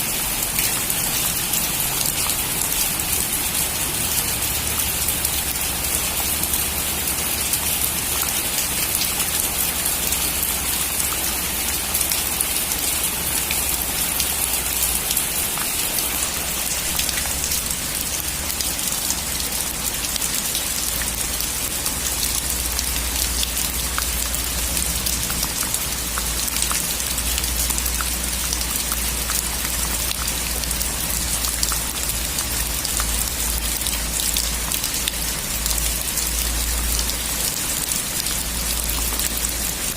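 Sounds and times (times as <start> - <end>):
heavy rain on a metal roof: 0.0 - 39.9
raindrops ticking: 0.0 - 39.9.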